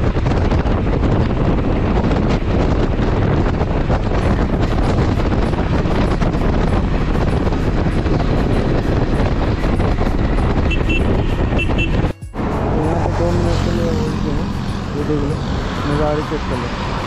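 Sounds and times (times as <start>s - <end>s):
motorcycle road and engine noise: 0.0s - 17.0s
wind buffeting microphone: 0.0s - 17.0s.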